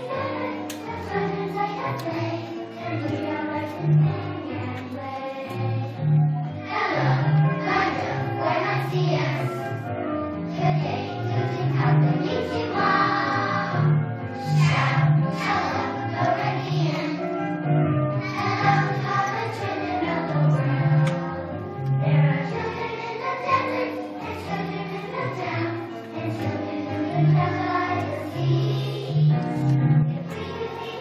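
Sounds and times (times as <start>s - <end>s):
children's choir singing: 0.0s - 31.0s.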